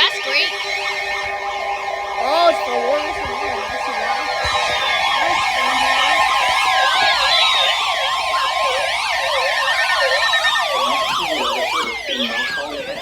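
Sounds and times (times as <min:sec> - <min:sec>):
steady alert tone: 0:00.0 - 0:13.0
warbling siren-like alert tones: 0:00.0 - 0:13.0.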